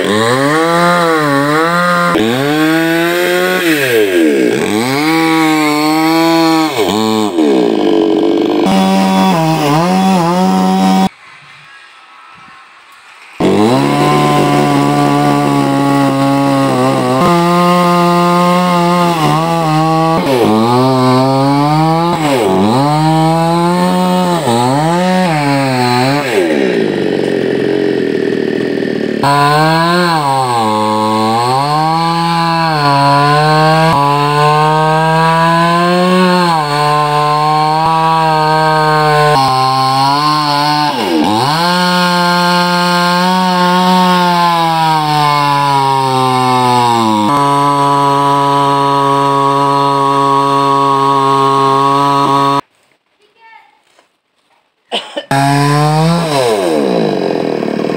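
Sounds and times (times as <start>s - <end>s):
chainsaw cutting tree trunk: 0.0s - 11.1s, 13.4s - 52.7s, 55.3s - 57.9s.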